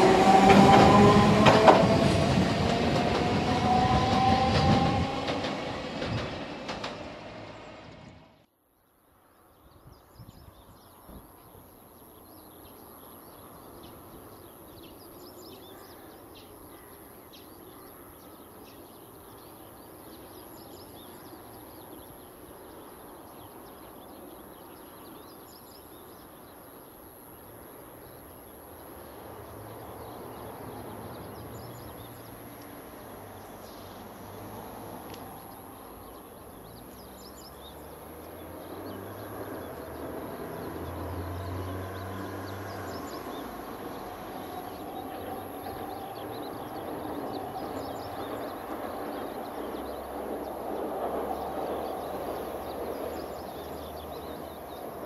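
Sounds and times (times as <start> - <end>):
electric train rumble: 0.0 - 8.5, 18.2 - 55.0
small birds chirping: 7.6 - 55.0.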